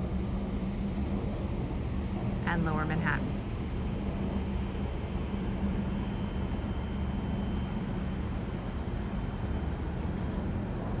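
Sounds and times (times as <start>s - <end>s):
ship engine and ventilation hum: 0.0s - 11.0s
wind: 0.0s - 11.0s.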